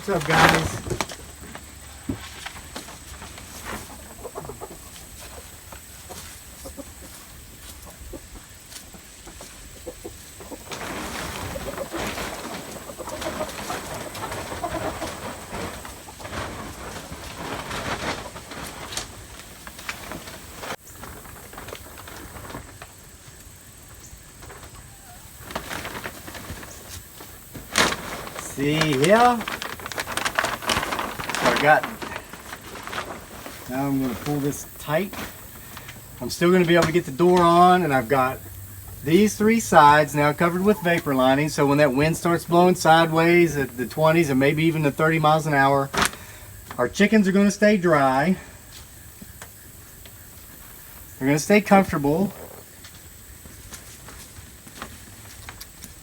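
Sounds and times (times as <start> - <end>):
chickens clucking: 0.0 - 54.4.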